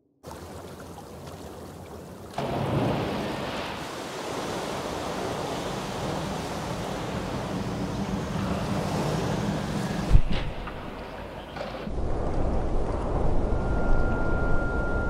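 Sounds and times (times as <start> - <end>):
rushing water and wind: 0.2 - 15.0.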